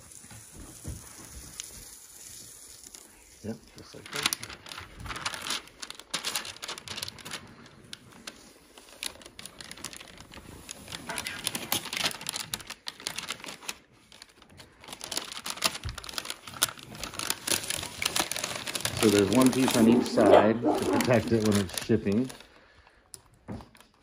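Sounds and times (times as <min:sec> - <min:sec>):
protective film peeling: 0:01.5 - 0:22.4.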